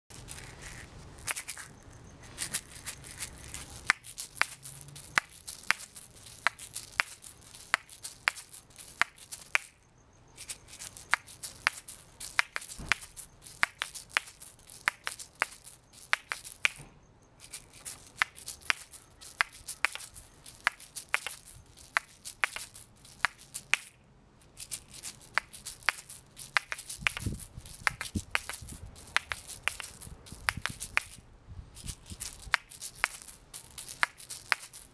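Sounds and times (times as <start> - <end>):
shaker balls clicking together: 0.1 - 9.8, 10.4 - 31.2, 31.8 - 34.9
shaker filling rattling: 0.1 - 9.8, 10.4 - 16.8, 17.4 - 31.2, 31.8 - 34.9.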